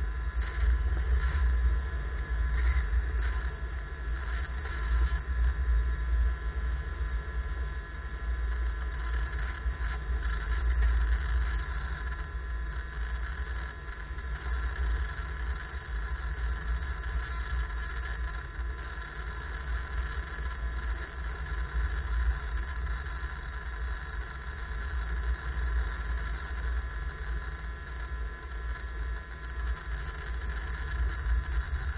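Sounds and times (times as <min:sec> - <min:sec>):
small aircraft motor droning: 0:00.0 - 0:31.9
wind rumble on microphone: 0:00.0 - 0:31.9.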